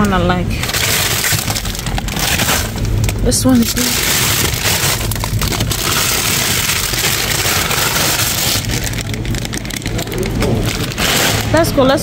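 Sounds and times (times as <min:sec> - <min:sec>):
plastic bags crinkling: 0:00.0 - 0:12.0
steady low hum: 0:00.0 - 0:12.0.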